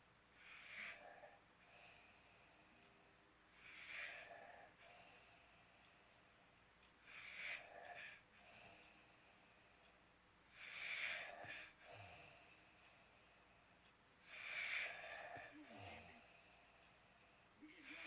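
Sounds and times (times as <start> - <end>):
quiet breathing: 0.0 - 18.0.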